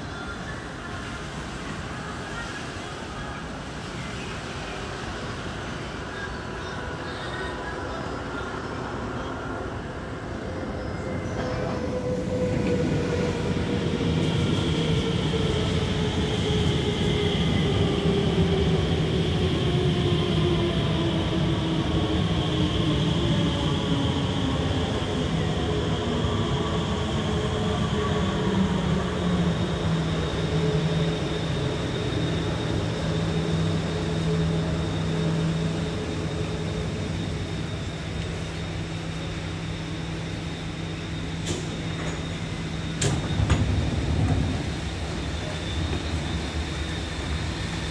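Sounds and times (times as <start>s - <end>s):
metro train braking to a stop: 0.0s - 47.9s.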